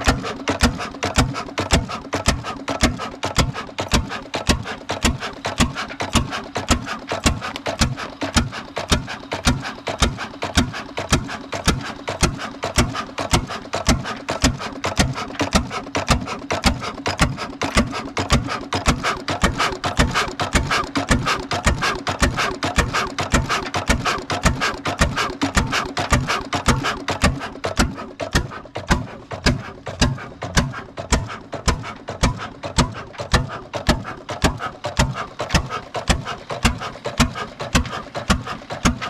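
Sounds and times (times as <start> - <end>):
diesel engine knocking: 0.0 - 39.0.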